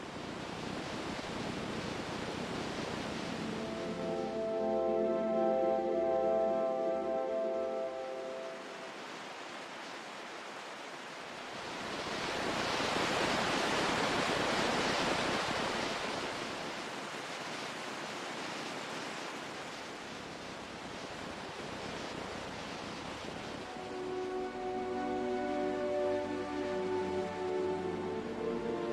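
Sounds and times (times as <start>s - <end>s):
ocean waves washing in: 0.0s - 28.9s.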